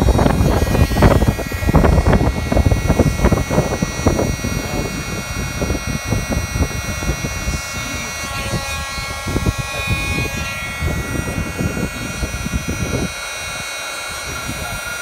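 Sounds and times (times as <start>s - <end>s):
hot air buffeting microphone: 0.0s - 13.6s, 14.2s - 15.0s
heat gun fan whine: 0.0s - 15.0s.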